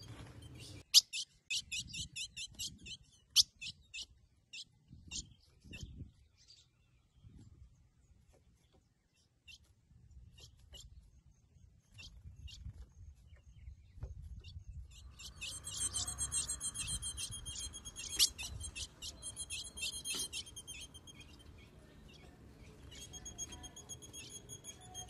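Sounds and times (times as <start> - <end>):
bird chips and twittering: 0.0 - 7.4, 8.5 - 25.0.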